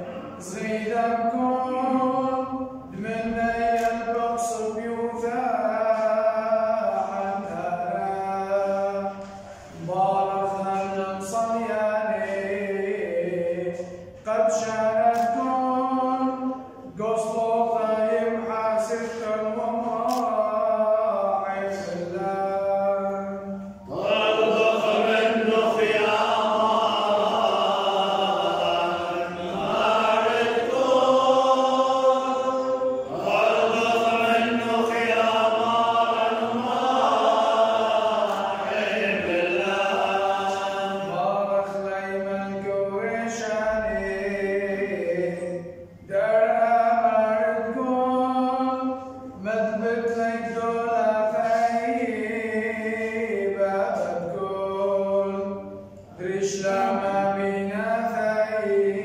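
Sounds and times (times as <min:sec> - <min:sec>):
man chanting: 0:00.0 - 0:59.0.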